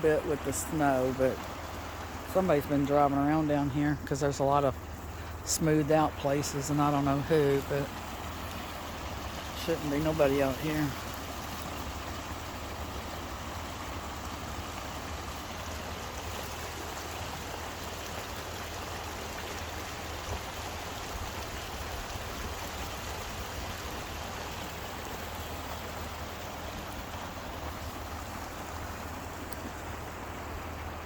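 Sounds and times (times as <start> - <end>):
creek water rushing: 0.0 - 31.0.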